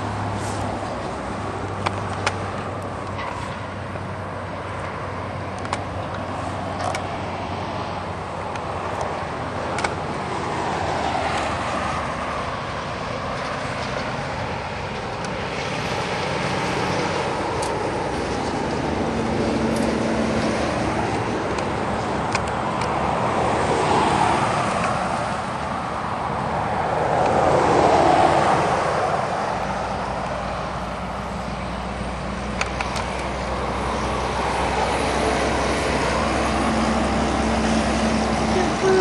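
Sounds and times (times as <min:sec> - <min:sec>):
truck engine humming: 0:00.0 - 0:39.0
vehicles passing on highway: 0:00.0 - 0:39.0.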